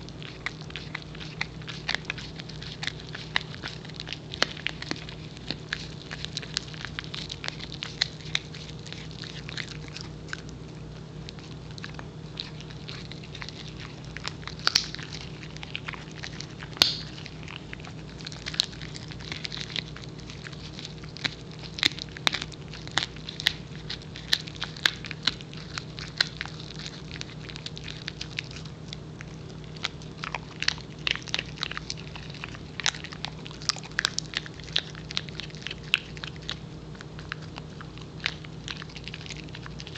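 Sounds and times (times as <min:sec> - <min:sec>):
dog chewing hard chew: 0:00.0 - 0:39.9.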